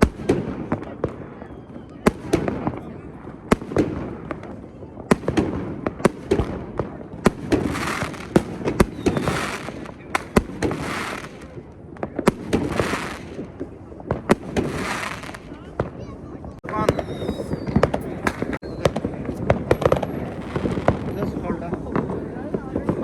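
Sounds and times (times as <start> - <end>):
fireworks bangs: 0.0 - 23.0
fireworks hissing and crackling: 0.0 - 23.0.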